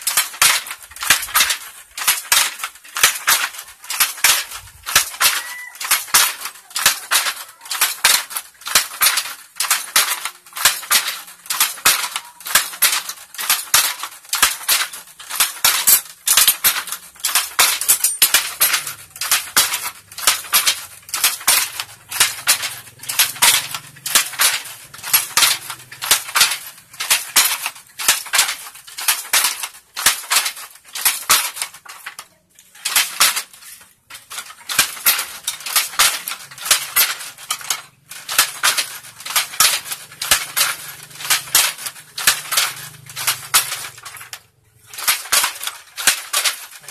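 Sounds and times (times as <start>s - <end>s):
handloom clacking: 0.0s - 46.9s.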